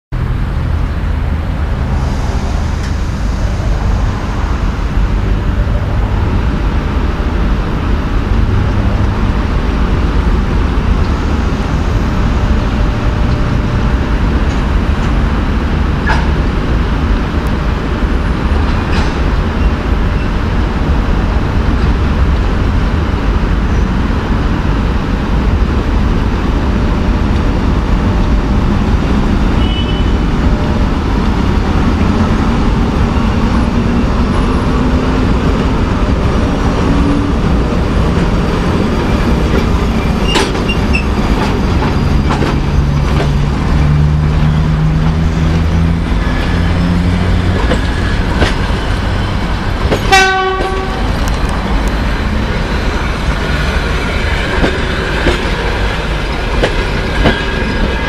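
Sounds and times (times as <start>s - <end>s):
electric locomotive droning: 0.2s - 58.0s.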